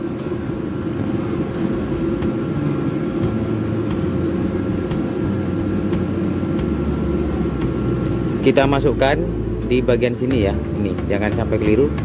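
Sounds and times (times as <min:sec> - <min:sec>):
faint steady hum: 0:00.0 - 0:12.0
steady low rumble: 0:00.0 - 0:12.0.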